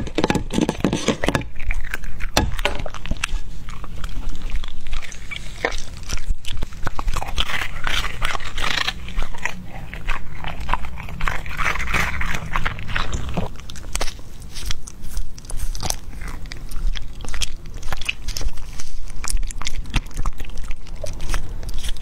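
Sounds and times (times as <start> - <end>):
dog chewing meat on bone: 0.0 - 22.0.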